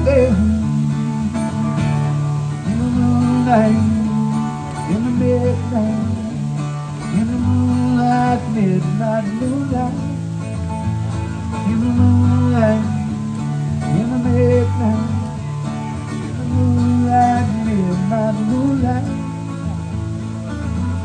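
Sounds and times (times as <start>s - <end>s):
acoustic guitar strumming: 0.0s - 21.0s
person singing slow melody: 0.0s - 21.0s.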